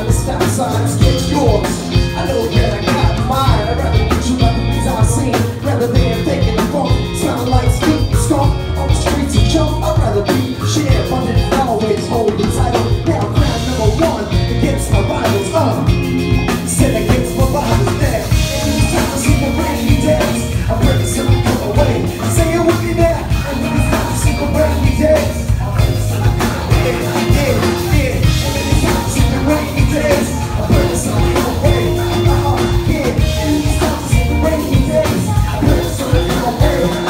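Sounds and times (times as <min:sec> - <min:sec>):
person rapping through speakers: 0:00.0 - 0:16.0, 0:16.7 - 0:37.0
live band playing: 0:00.0 - 0:37.0.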